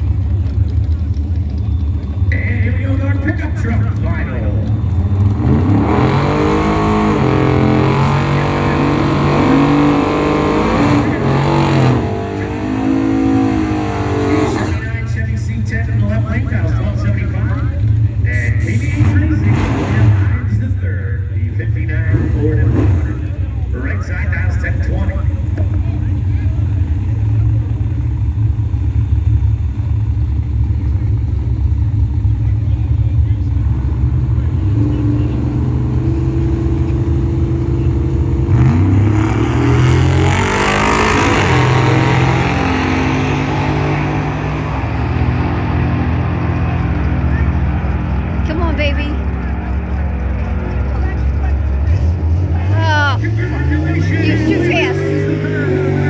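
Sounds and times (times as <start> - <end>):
pickup truck engines accelerating: 0.0 - 56.0.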